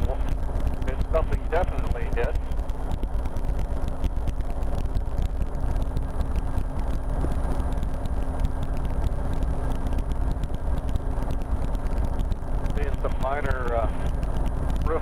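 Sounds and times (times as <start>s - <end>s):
helicopter engine and rotor noise: 0.0s - 15.0s.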